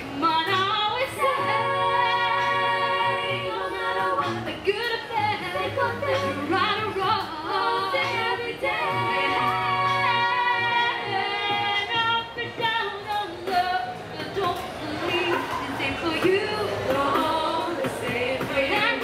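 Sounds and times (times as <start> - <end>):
a cappella group singing: 0.0 - 19.0.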